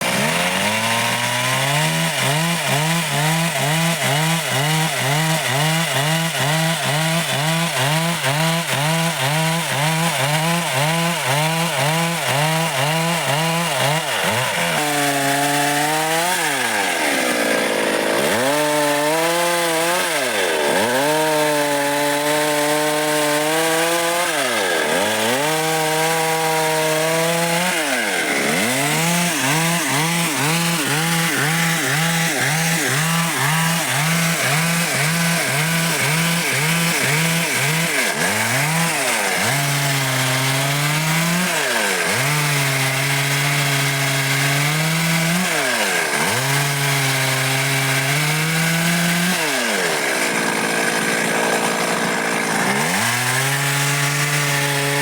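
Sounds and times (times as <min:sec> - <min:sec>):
chainsaw cutting dry wood: 0:00.0 - 0:55.0.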